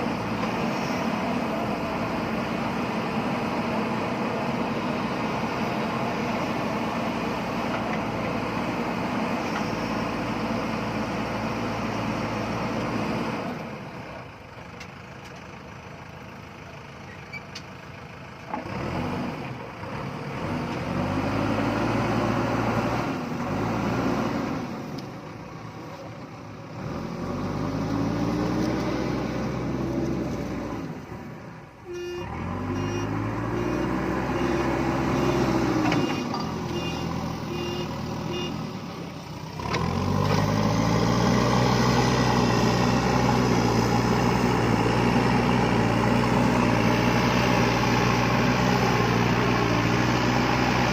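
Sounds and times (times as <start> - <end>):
diesel engine revving: 0.0 - 14.3, 18.6 - 25.8, 26.4 - 50.9.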